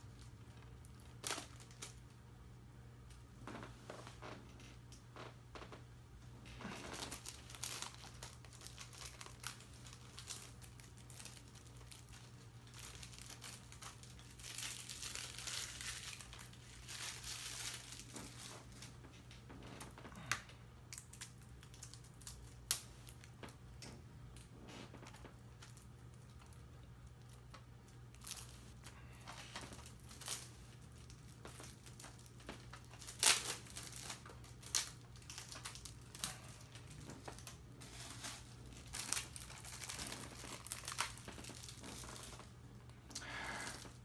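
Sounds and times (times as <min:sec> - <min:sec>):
plastic shrink-wrap crinkling: 0:00.0 - 0:02.2, 0:06.5 - 0:23.6, 0:24.4 - 0:44.0
low steady hum: 0:00.0 - 0:44.0.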